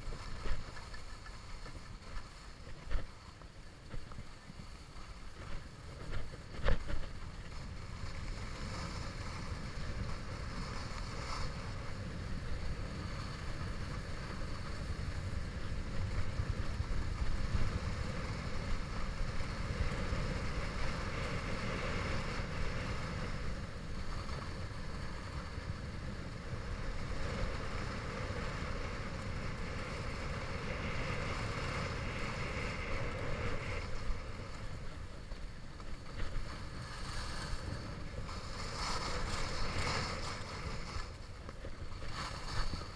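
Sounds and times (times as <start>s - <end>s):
skis hissing over snow: 0.0s - 42.9s
wind buffeting microphone: 0.0s - 42.9s.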